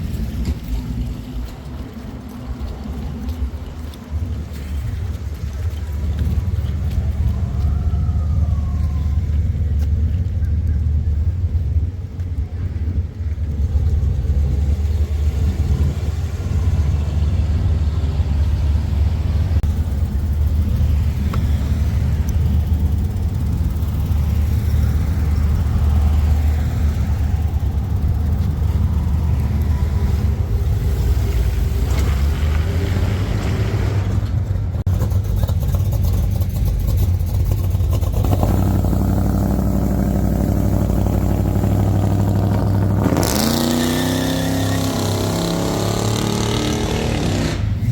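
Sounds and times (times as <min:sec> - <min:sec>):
car engine exhaust rumble: 0:00.0 - 0:47.9.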